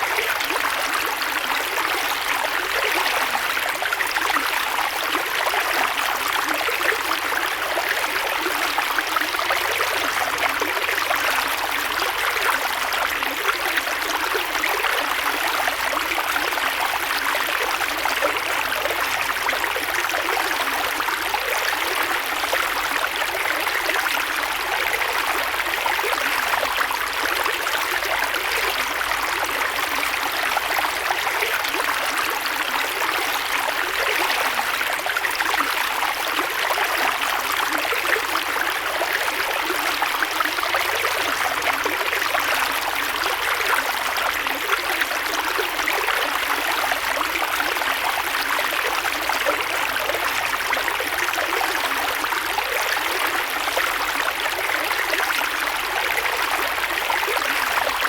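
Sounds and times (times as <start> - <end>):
creek water flowing over stones: 0.0 - 58.0.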